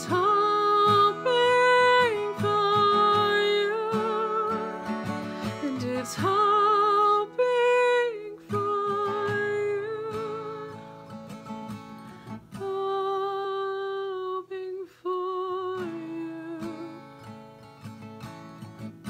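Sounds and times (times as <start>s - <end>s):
woman singing with vibrato: 0.0s - 11.0s, 12.5s - 17.2s
strummed acoustic guitar: 0.0s - 14.5s, 15.4s - 19.0s.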